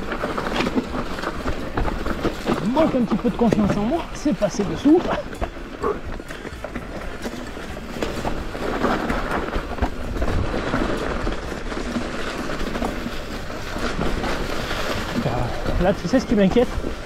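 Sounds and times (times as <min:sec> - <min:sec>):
bike rattling over bumps: 0:00.0 - 0:17.0
bike tyres crackling over leaves: 0:00.0 - 0:17.0.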